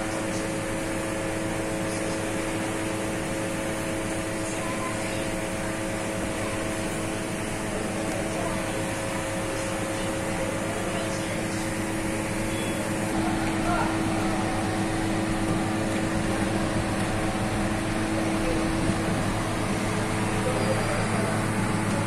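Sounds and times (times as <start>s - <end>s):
machinery hum and hiss: 0.0s - 22.0s.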